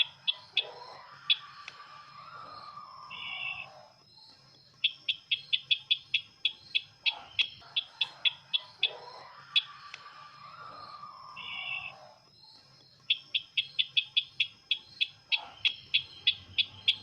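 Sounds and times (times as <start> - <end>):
sharp high bird chirps: 0.0 - 17.0.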